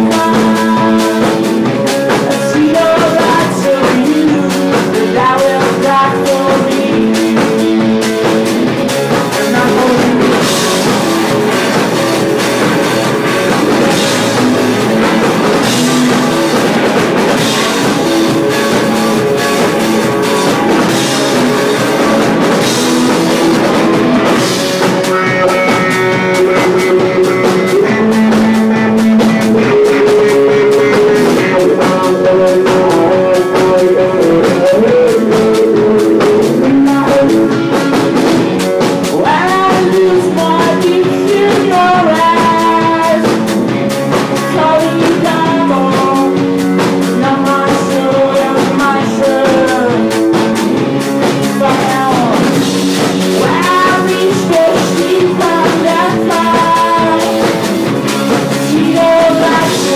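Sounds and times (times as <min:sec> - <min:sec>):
drum kit: 0:00.0 - 0:59.9
electric guitar: 0:00.0 - 0:59.9
person singing: 0:00.0 - 0:59.9.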